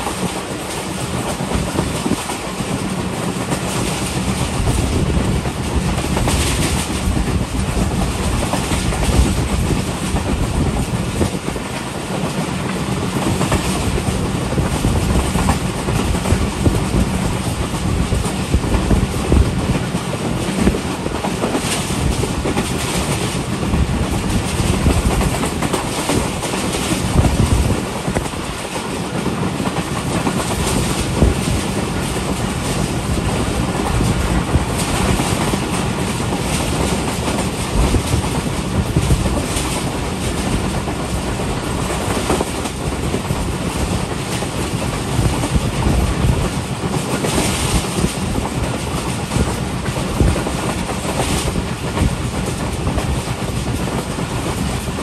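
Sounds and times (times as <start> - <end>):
train rumble: 0.0 - 55.0
wheels clattering over rails: 0.0 - 55.0.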